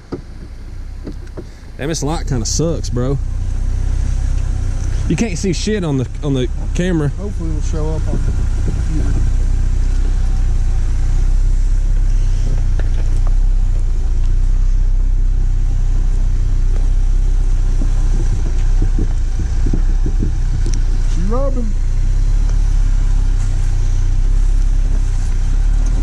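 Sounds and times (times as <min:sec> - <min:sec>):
vehicle engine low rumble: 0:00.0 - 0:26.0.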